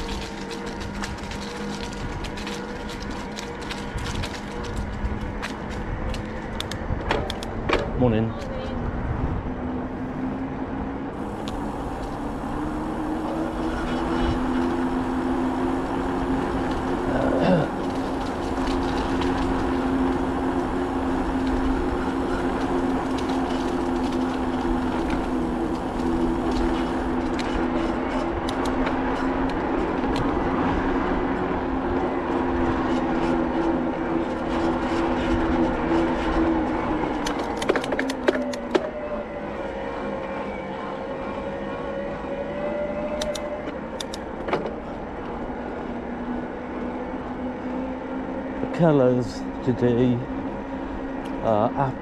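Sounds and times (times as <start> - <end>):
bicycle rolling on tarmac: 0.0 - 52.0.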